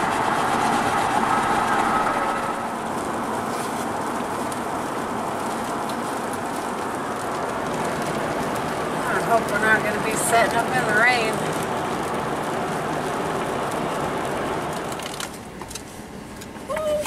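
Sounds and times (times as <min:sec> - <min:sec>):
road and engine noise in car: 0:00.0 - 0:17.0.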